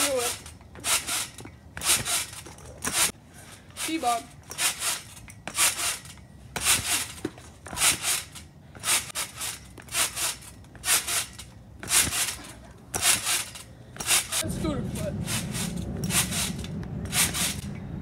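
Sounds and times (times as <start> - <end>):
trampoline mat and springs swishing: 0.0 - 17.8.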